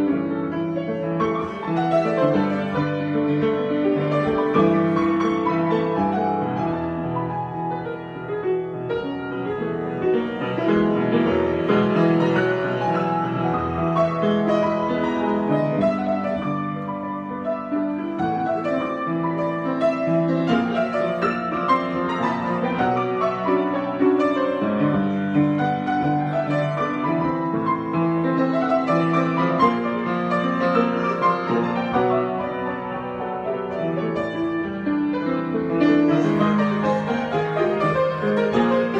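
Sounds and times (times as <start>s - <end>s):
piano improvisation: 0.0s - 38.9s.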